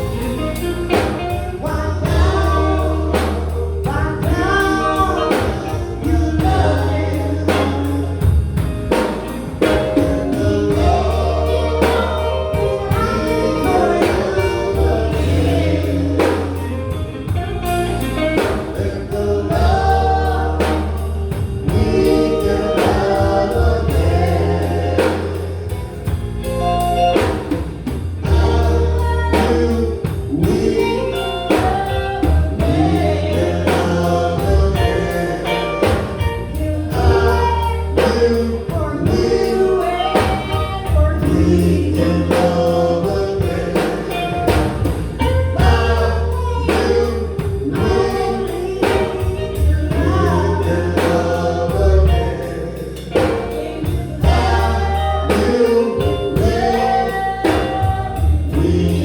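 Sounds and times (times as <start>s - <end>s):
band with drums bass and keyboard: 0.0s - 59.0s
men singing gospel together: 0.0s - 59.0s.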